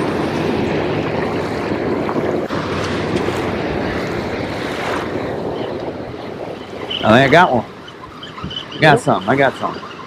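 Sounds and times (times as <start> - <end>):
water washing against boat hull: 0.0 - 10.0
wind rushing over microphone: 0.0 - 10.0.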